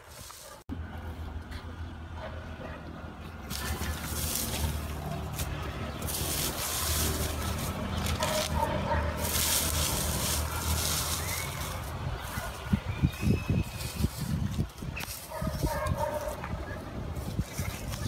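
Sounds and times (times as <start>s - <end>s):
hands scraping dry soil: 0.0s - 0.6s, 3.4s - 18.0s.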